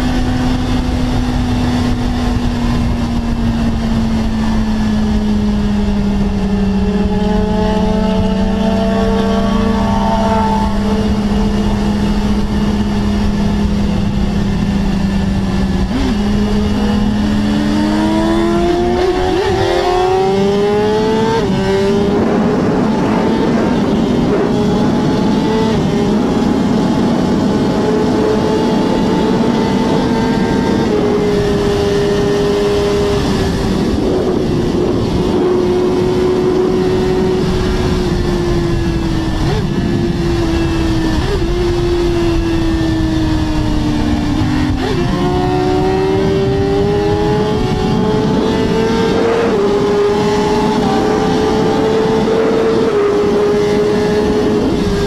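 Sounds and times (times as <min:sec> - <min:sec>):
motorcycle engine at high revs: 0:00.0 - 0:55.0
wind rush on microphone: 0:00.0 - 0:55.0.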